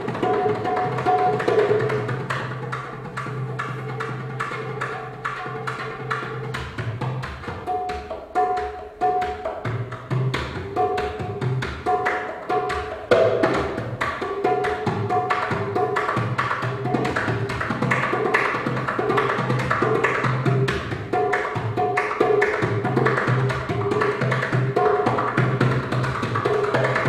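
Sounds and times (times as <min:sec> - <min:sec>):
hand drum played with fingers: 0:00.0 - 0:27.0.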